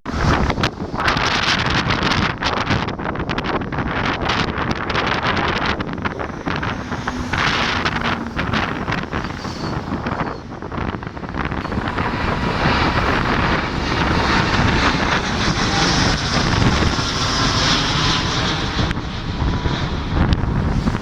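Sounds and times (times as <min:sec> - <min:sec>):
jet engines rushing: 0:00.0 - 0:21.0
wind buffeting microphone: 0:00.0 - 0:21.0.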